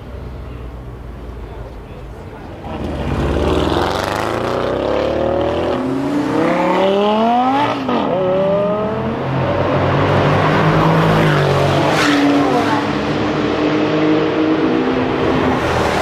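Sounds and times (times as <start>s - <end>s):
car engine accelerating hard: 2.6s - 16.0s.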